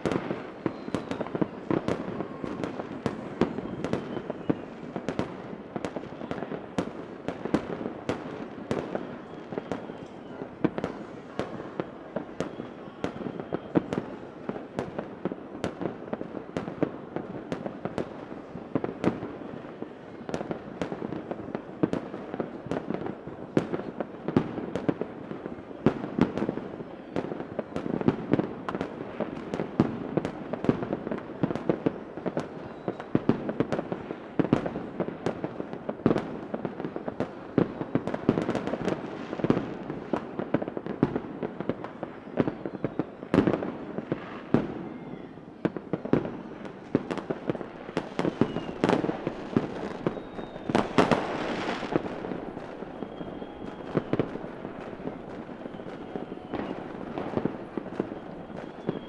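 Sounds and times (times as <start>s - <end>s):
fireworks bangs and pops: 0.0s - 59.0s
fireworks crackle: 0.0s - 59.0s
fizzing fireworks burst: 0.0s - 59.0s.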